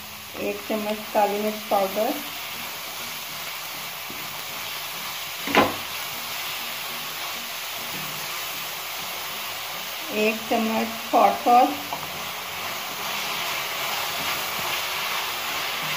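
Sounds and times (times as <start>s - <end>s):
vegetables sizzling in a wok: 0.0s - 15.9s.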